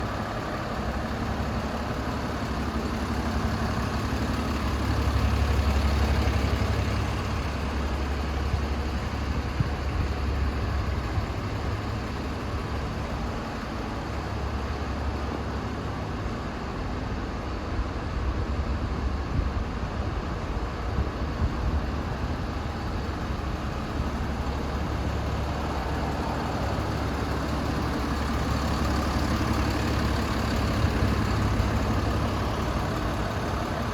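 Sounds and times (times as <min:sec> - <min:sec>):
diesel lorry engine idling: 0:00.0 - 0:33.9.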